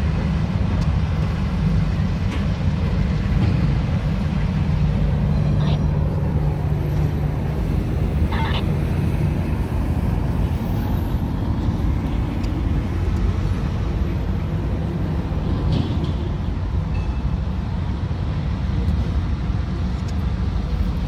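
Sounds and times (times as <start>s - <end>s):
dump truck passing: 0.0s - 21.0s
freight train rumble: 0.0s - 21.0s
road traffic noise: 0.0s - 21.0s.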